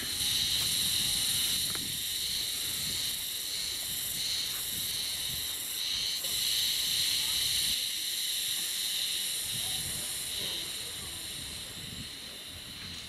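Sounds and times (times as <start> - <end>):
high-pitched insect buzzing: 0.0 - 13.0.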